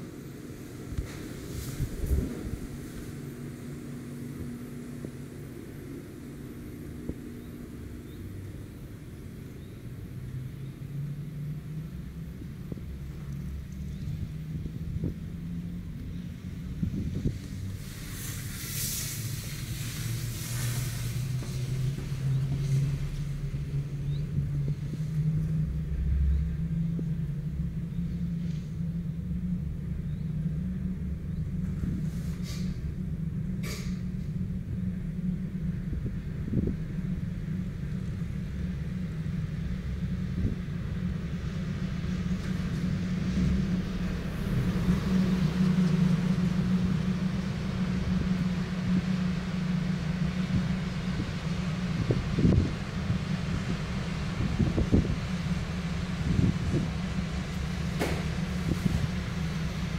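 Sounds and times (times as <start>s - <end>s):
low mechanical hum of cable car: 0.0s - 59.9s.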